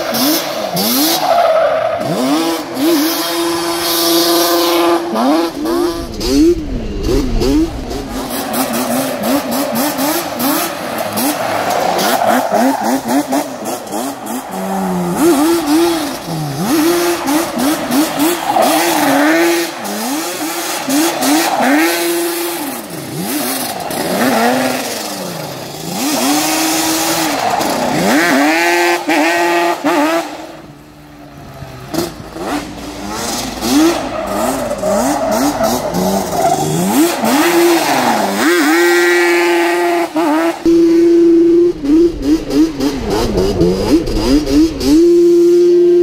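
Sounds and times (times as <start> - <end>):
quad engine revving: 2.0 - 30.6, 31.8 - 46.0.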